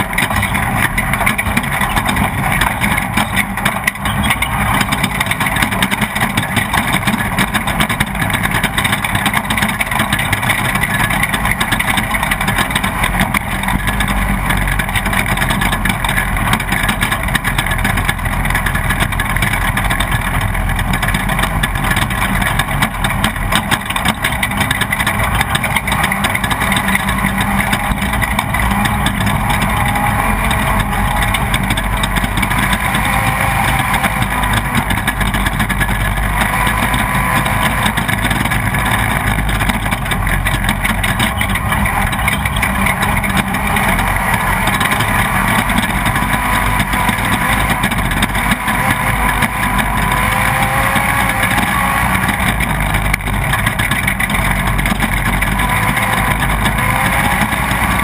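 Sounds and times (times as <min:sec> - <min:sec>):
race vehicle engine running hard: 0:00.0 - 0:58.0.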